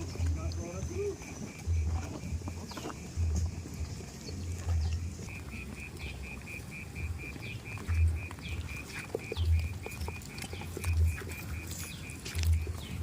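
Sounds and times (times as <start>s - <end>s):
dull low thumps: 0.0s - 13.0s
high chirping call: 0.9s - 13.0s.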